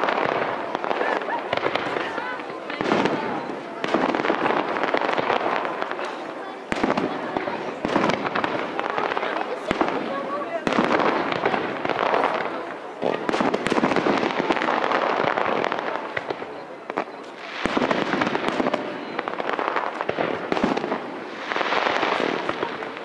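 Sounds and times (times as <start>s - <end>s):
fireworks crackling and popping: 0.0s - 23.0s.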